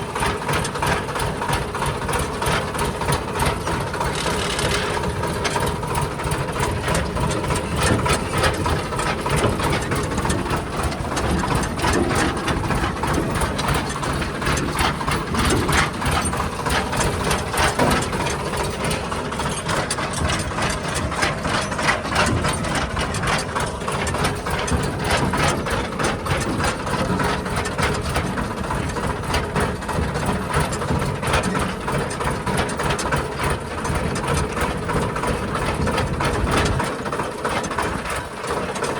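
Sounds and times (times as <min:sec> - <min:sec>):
diesel engine running: 0:00.0 - 0:38.9
sharp clattering knocks: 0:00.2 - 0:38.2.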